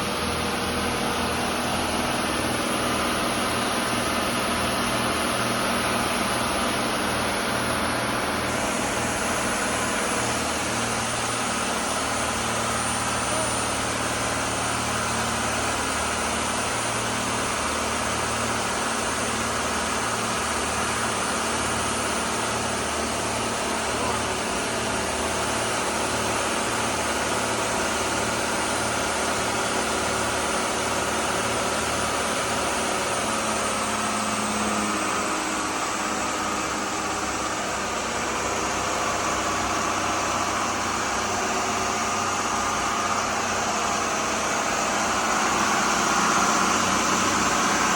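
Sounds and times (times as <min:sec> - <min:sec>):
boat diesel engines droning: 0:00.0 - 0:47.9.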